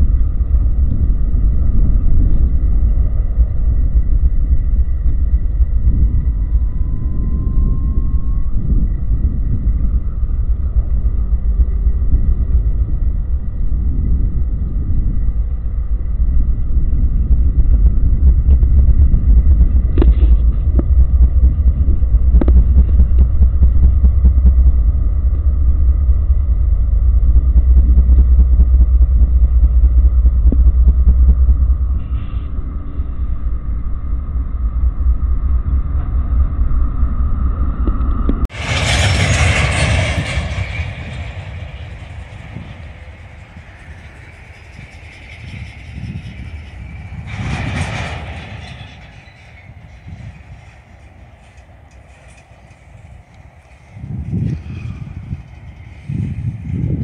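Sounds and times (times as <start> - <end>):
diesel locomotive engine rumble: 0.0 - 57.0
faint high whine: 0.0 - 57.0.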